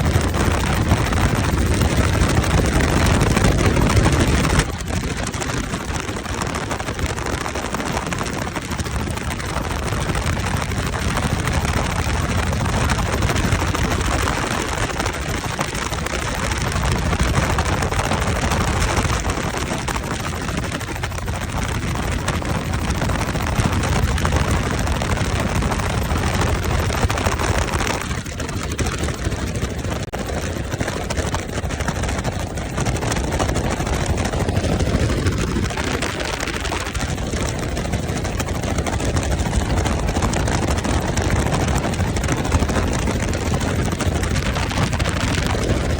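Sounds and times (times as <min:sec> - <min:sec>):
helicopter engine and rotor: 0:00.0 - 0:45.9.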